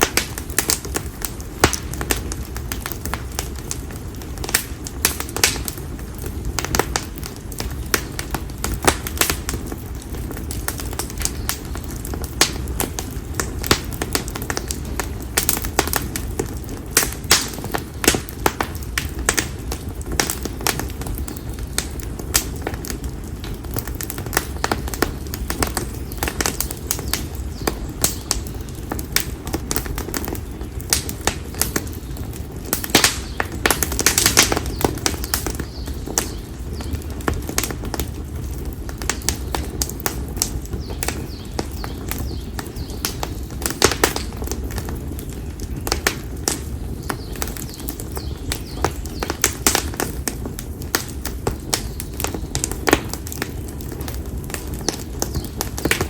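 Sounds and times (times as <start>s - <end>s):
campfire crackling and popping: 0.0s - 56.0s
rush of flames: 0.0s - 56.0s.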